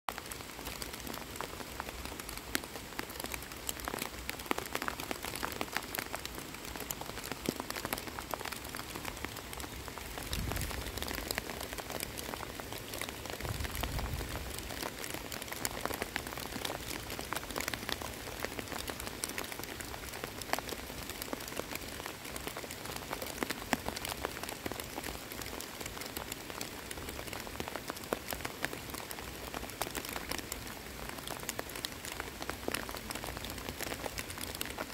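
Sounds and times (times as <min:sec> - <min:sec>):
rain falling on water and grass: 0:00.1 - 0:34.9.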